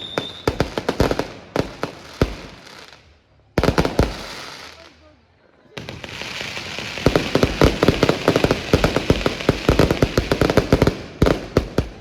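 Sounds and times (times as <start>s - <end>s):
fireworks bangs: 0.0s - 5.0s, 5.7s - 12.0s.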